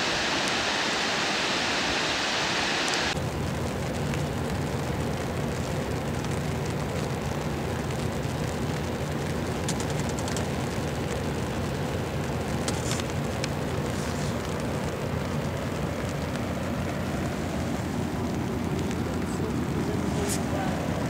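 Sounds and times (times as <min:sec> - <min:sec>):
ship engines droning: 0:00.0 - 0:21.0.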